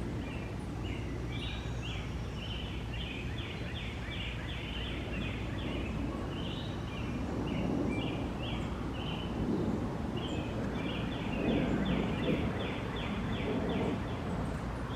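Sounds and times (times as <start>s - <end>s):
low background noise: 0.0s - 14.9s.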